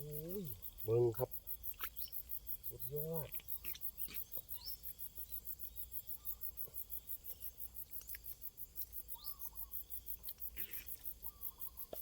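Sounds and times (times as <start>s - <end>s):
crickets trilling: 0.0s - 12.0s
faint insect or frog chirps: 0.0s - 12.0s.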